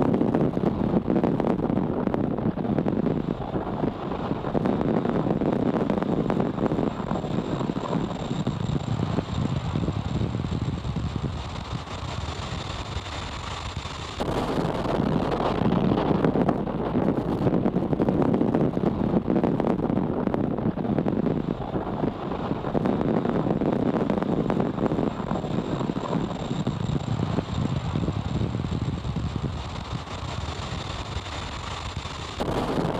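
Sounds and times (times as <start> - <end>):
rushing air and rumble: 0.0 - 32.9.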